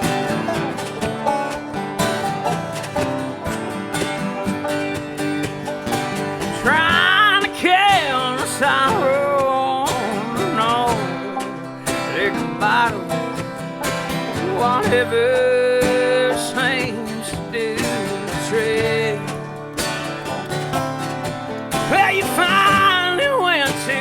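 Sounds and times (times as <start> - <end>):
acoustic guitar picking: 0.0 - 24.0
banjo picking: 0.0 - 24.0.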